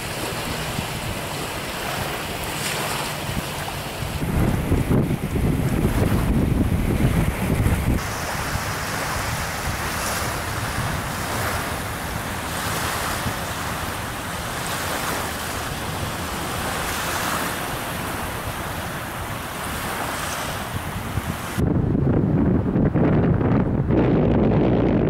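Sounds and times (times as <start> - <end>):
small waves washing onto shore: 0.0 - 21.6
wind: 0.0 - 25.0.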